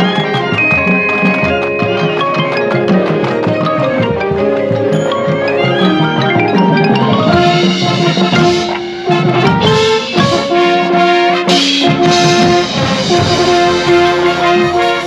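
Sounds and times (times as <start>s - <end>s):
marching band playing: 0.0s - 15.0s
percussion hits: 0.0s - 15.0s
brass holding chords: 0.2s - 15.0s.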